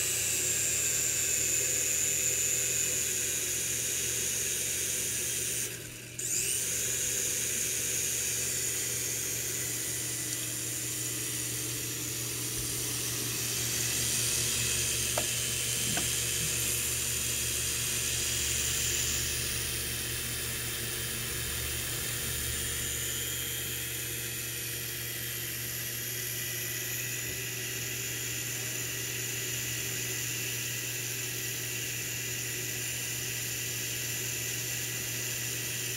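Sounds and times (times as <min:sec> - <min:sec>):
toy helicopter whirring: 0:00.0 - 0:35.9.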